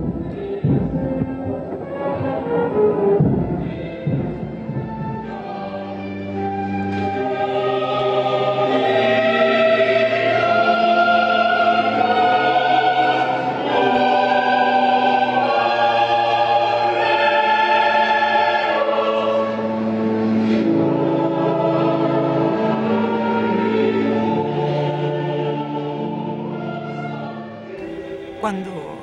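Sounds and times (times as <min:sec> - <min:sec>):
choir singing solemn chords: 0:00.0 - 0:29.0.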